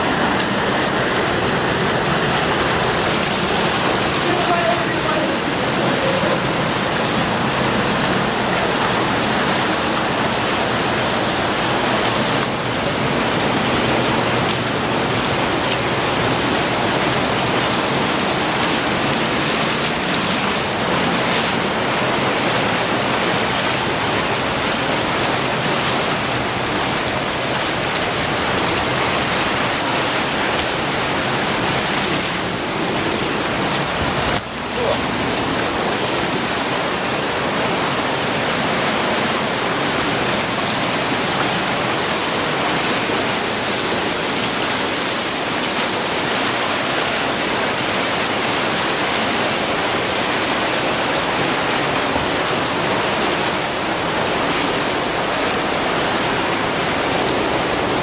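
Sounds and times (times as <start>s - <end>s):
cave stream rushing water: 0.0s - 58.0s.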